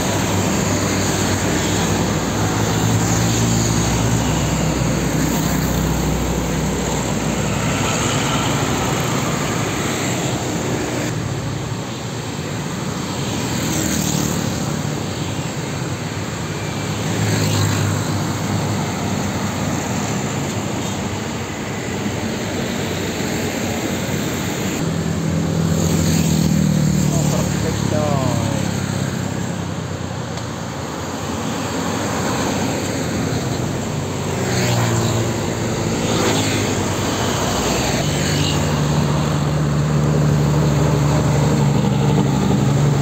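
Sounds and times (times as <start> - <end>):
diesel trucks passing: 0.0 - 43.0
motorbikes passing: 0.0 - 43.0.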